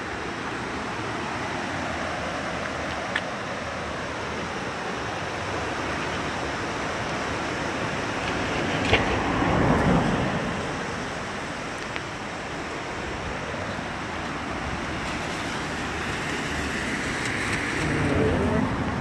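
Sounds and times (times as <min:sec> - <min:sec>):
river rushing over boulders: 0:00.0 - 0:19.0.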